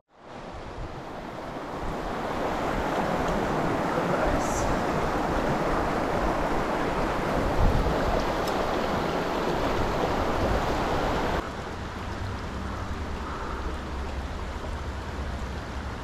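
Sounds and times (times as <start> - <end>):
creek rushing over rocks: 0.1 - 16.0.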